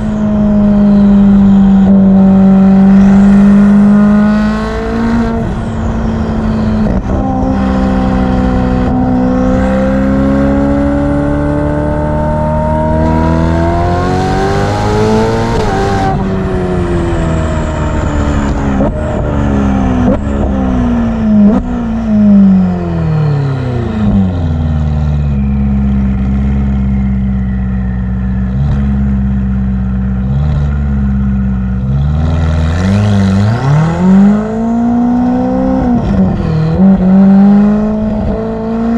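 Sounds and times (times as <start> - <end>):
sports car engine revving: 0.0 - 38.9.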